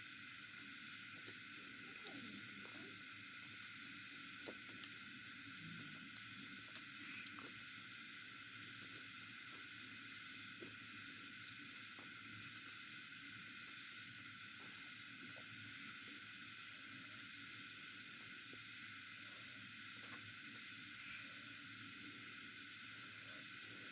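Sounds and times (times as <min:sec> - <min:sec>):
insects chirping: 0:00.0 - 0:23.9.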